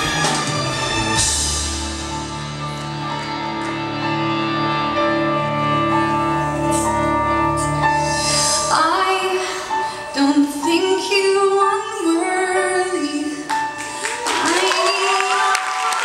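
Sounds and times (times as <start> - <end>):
held chords: 0.0 - 14.3.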